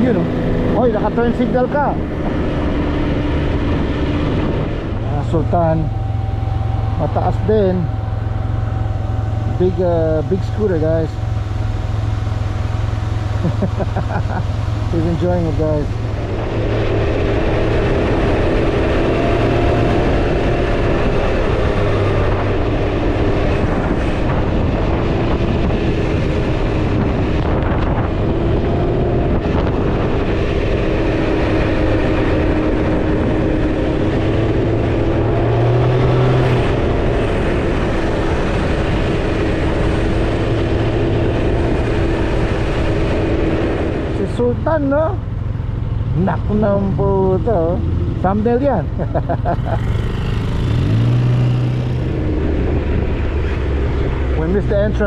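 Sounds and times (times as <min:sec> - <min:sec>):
three-wheeler engine cruising: 0:00.0 - 0:55.0.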